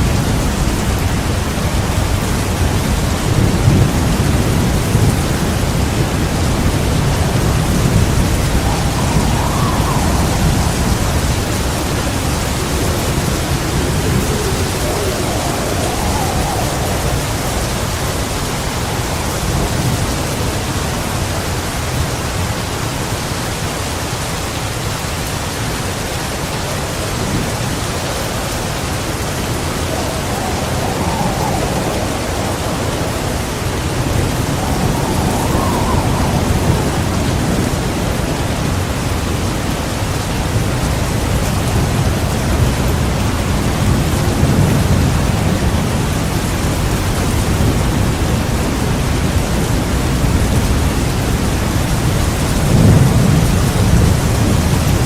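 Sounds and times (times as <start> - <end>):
deep thunder rumbling: 0.0 - 22.4, 27.1 - 55.0
faint wind gusts: 0.0 - 55.0
heavy rain falling: 0.0 - 55.0.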